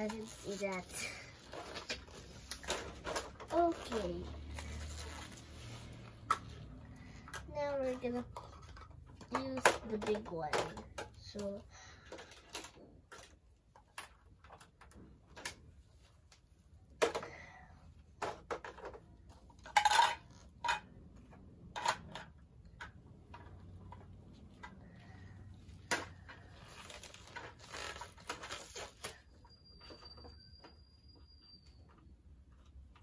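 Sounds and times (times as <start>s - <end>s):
plastic toys clattering: 0.0s - 5.2s, 6.2s - 16.1s, 16.8s - 30.8s.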